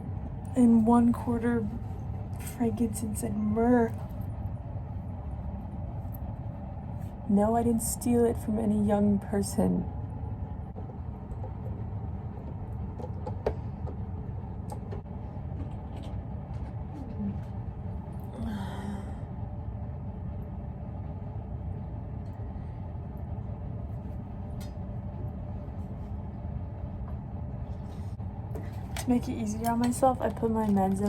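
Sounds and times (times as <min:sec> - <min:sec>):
low room hum and rumble: 0:00.0 - 0:31.0.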